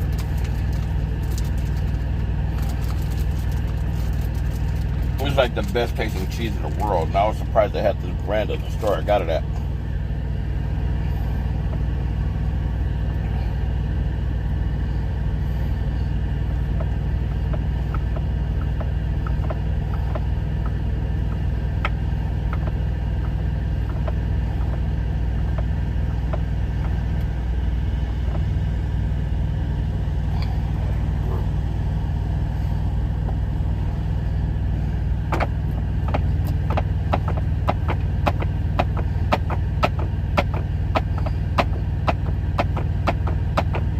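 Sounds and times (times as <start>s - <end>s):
truck engine idling: 0.0s - 43.9s.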